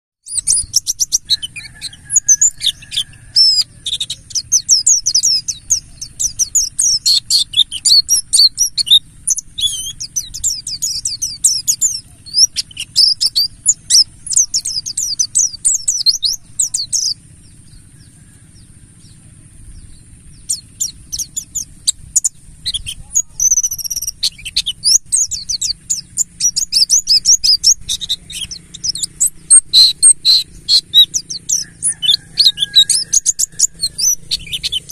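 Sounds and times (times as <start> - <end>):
bird twittering song: 0.2 - 34.9.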